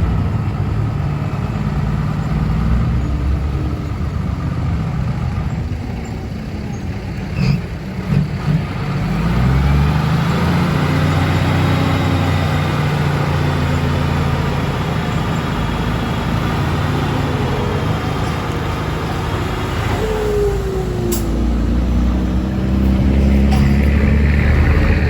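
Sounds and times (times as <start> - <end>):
diesel truck engine under load: 0.0 - 25.0.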